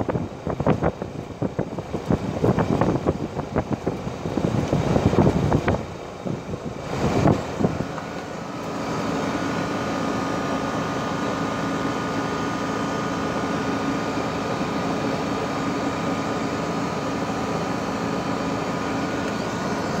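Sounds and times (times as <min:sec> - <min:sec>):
compressor hum with high whine: 0:00.0 - 0:20.0
condenser fan blowing: 0:00.0 - 0:20.0.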